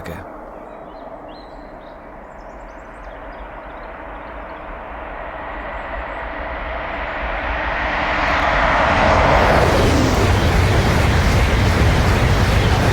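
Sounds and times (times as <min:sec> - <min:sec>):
train approaching: 0:00.0 - 0:12.9.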